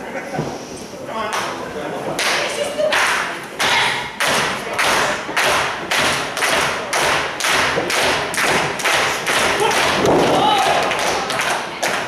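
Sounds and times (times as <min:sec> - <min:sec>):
crowd clapping in unison: 0:02.2 - 0:12.0.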